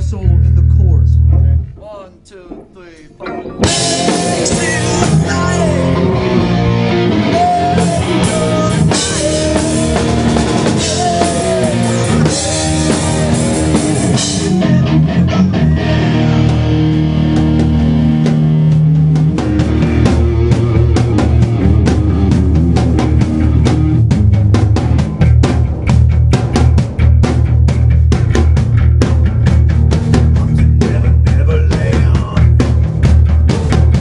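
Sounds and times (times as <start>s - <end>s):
lead guitar line: 0.0s - 34.0s
heavy metal band playing live: 2.5s - 34.0s
drums and cymbals: 3.6s - 34.0s.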